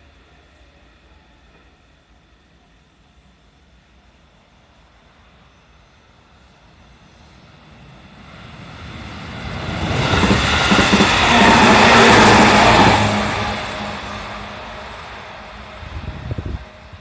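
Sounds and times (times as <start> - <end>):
wheels rushing on rails: 3.3 - 17.0.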